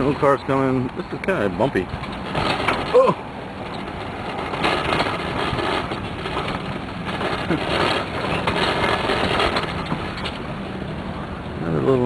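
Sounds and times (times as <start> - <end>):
bike rumbling over pavement: 0.0 - 12.0
frame rattling and knocking: 1.4 - 11.2.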